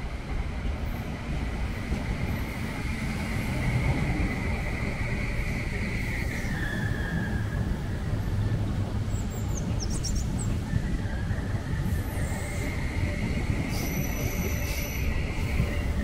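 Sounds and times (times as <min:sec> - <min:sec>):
electric train rumbling with whine: 0:00.0 - 0:16.0.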